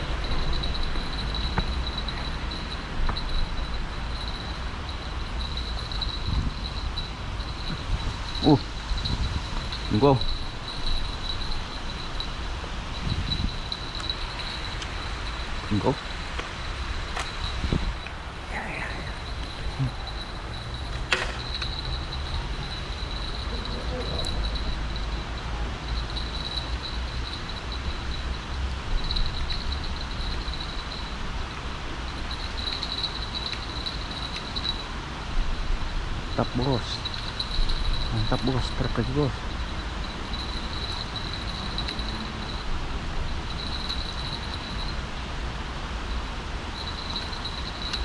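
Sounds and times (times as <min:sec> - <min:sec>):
distant traffic rumble: 0:00.0 - 0:48.0
insect trill: 0:00.0 - 0:48.0.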